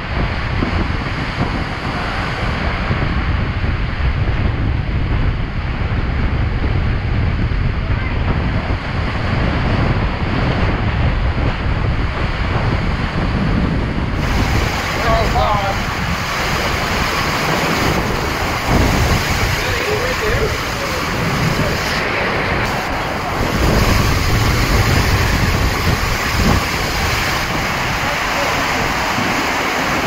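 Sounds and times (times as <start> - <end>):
driving rain: 0.0 - 30.0
strong wind: 0.0 - 30.0
wind battering microphone: 0.0 - 30.0.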